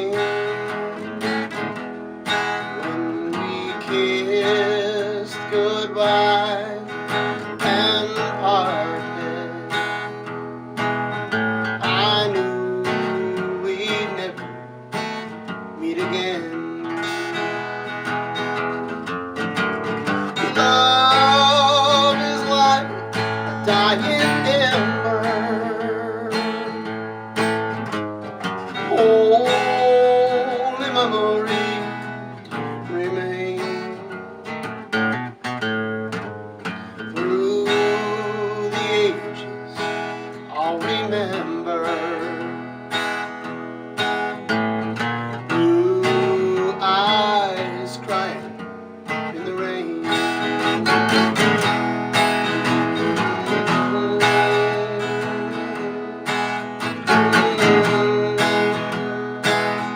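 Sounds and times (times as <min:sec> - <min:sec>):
acoustic guitar ballad: 0:00.0 - 0:59.9.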